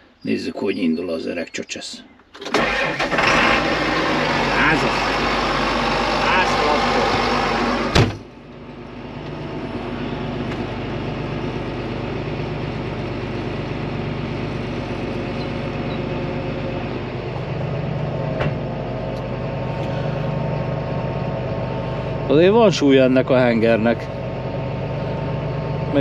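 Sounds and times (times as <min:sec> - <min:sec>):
tractor engine running: 0:02.1 - 0:26.0.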